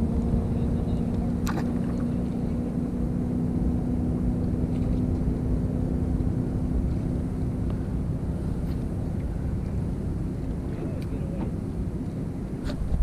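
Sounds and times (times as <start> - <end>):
boat motor humming: 0.0 - 13.0
wind and water rumble: 0.0 - 13.0.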